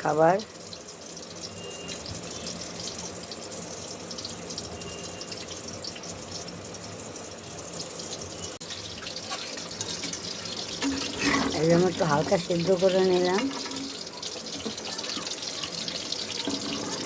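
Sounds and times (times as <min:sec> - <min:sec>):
water bubbling in a pot: 0:00.0 - 0:17.0.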